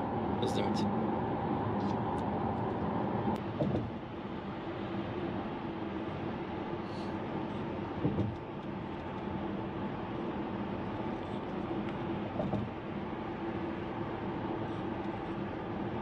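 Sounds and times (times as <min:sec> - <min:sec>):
car cabin road and engine noise: 0:00.0 - 0:16.0.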